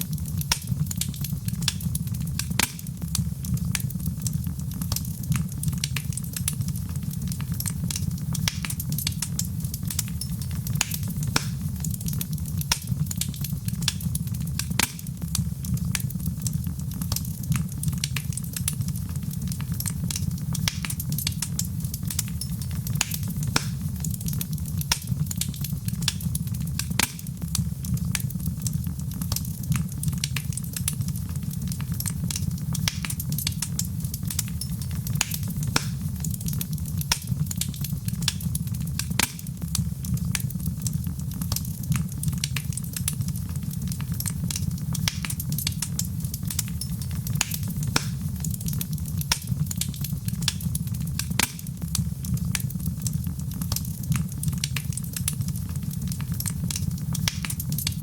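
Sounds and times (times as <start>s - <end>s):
fire low rumble: 0.0s - 58.0s
wood fire crackling and popping: 0.0s - 58.0s.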